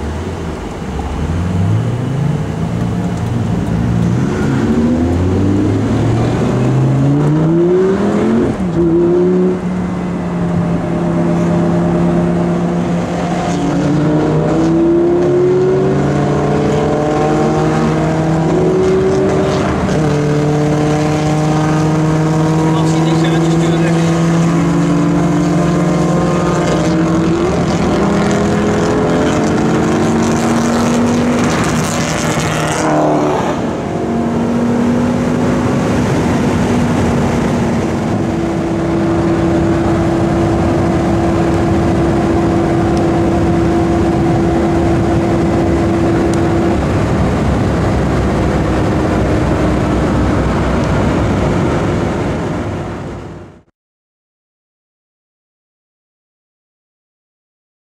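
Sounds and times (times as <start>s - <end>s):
car engine revving: 0.0s - 53.7s
road noise: 0.0s - 53.7s.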